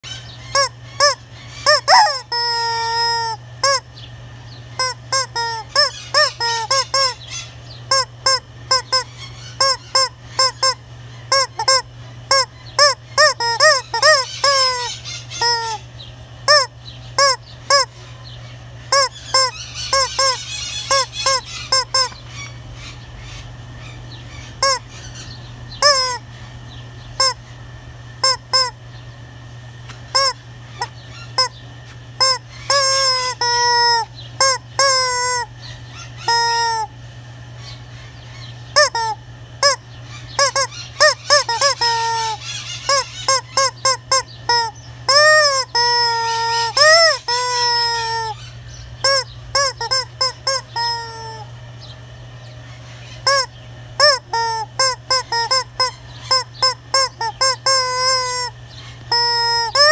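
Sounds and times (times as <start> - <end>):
rubber chicken toy squawking: 0.0 - 3.9, 4.8 - 15.8, 16.5 - 18.0, 18.9 - 22.5, 24.4 - 26.2, 27.2 - 27.5, 28.2 - 28.8, 30.1 - 31.5, 32.2 - 36.9, 38.7 - 39.8, 40.4 - 51.5, 53.0 - 59.9.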